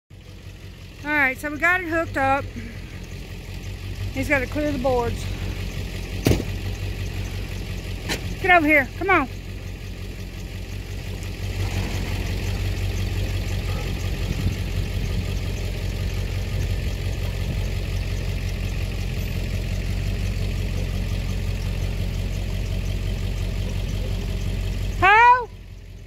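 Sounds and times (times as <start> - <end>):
engine idling low: 0.1 - 26.0.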